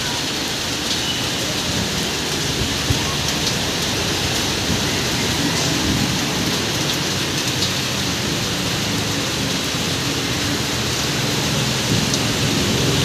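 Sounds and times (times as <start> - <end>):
heavy rain pouring on street: 0.0 - 13.0.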